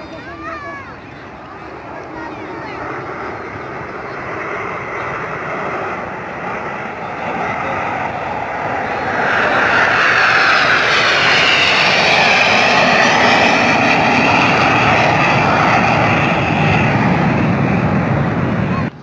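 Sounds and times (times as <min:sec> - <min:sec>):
jet aircraft flying past: 0:00.0 - 0:19.0.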